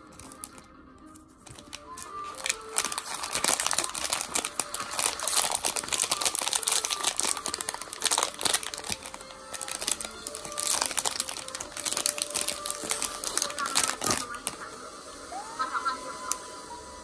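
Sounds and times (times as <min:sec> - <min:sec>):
foil bag crinkling: 0:00.0 - 0:00.6, 0:01.4 - 0:14.8.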